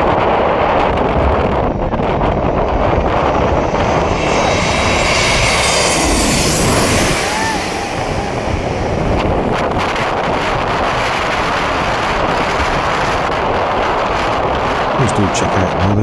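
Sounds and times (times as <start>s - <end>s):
wind buffeting microphone: 0.0s - 16.0s
airliner passing overhead: 0.1s - 15.9s.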